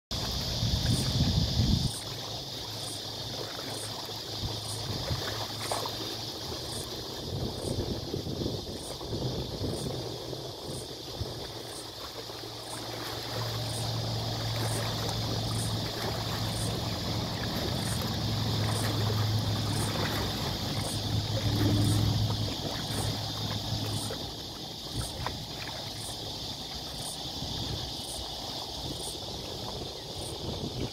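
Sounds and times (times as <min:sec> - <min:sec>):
steady outdoor hiss: 0:00.1 - 0:30.9
distant engine hum: 0:00.2 - 0:30.9.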